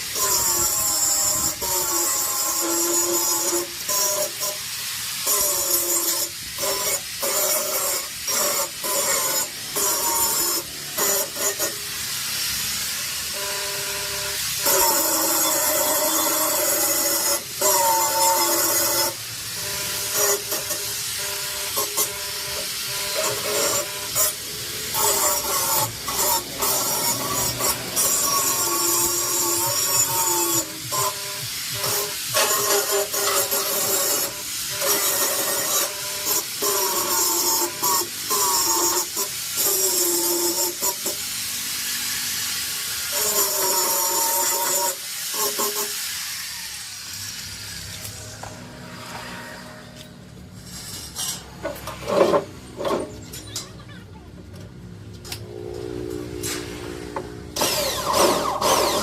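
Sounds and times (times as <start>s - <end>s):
power tool hissing on steel: 0.0s - 53.5s, 55.5s - 59.0s.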